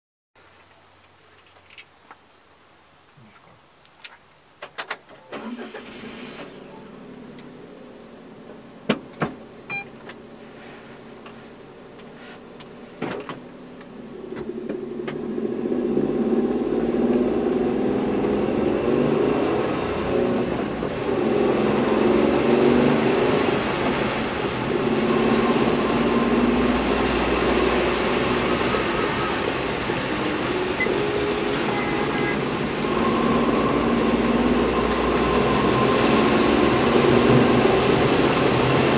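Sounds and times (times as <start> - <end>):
van engine idling and accelerating: 5.3 - 38.9.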